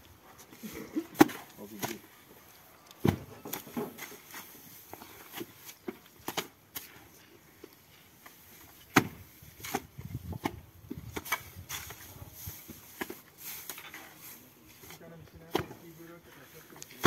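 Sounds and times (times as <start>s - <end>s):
straw rustling: 0.2s - 17.0s.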